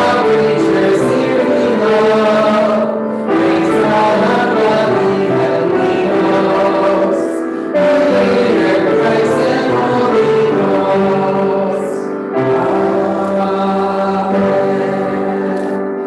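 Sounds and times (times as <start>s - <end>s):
choir singing a hymn: 0.0s - 16.0s.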